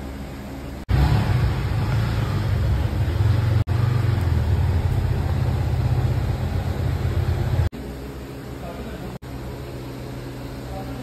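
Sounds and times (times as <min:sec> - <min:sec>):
engine idling: 0:00.8 - 0:11.0.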